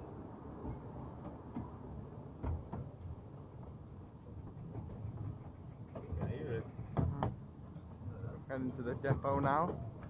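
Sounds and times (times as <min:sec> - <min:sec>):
railway carriage rumbling on track: 0:00.0 - 0:10.0.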